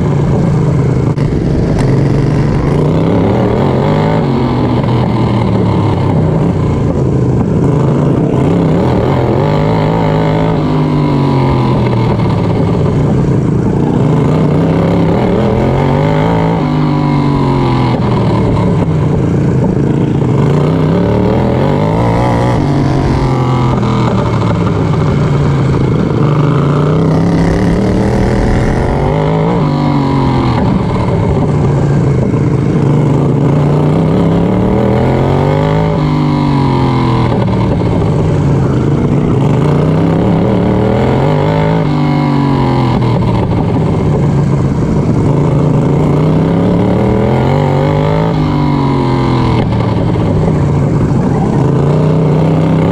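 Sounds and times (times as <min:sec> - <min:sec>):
racing lawn mower engine: 0:00.0 - 0:52.9.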